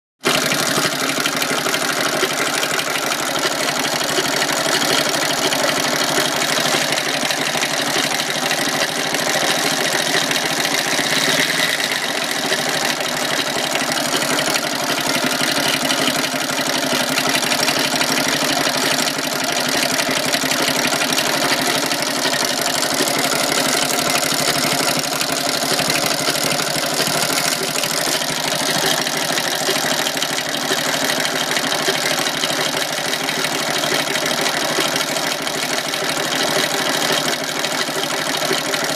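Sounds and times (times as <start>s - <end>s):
fast mechanical clatter: 0.2s - 38.9s
small engine idling: 0.2s - 38.9s.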